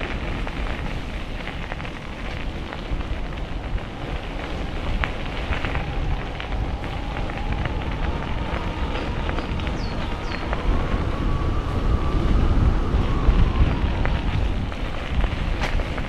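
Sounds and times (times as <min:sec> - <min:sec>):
bicycle tyres rolling on path: 0:00.0 - 0:16.0
wind rumbling on microphone: 0:00.0 - 0:16.0.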